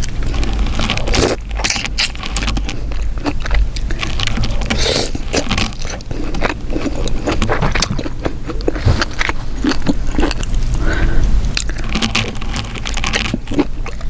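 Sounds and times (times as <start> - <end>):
wet chewing and lip-smacking: 0.0 - 14.0.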